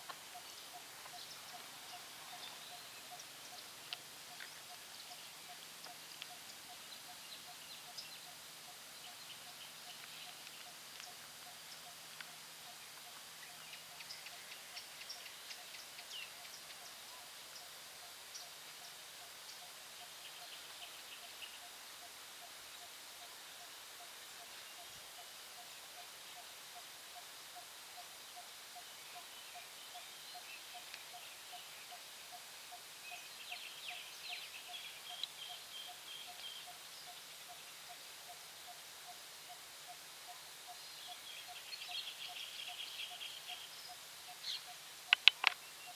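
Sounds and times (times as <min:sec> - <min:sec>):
birds chirping faintly: 0:00.0 - 0:45.9
steady hiss: 0:00.0 - 0:45.9.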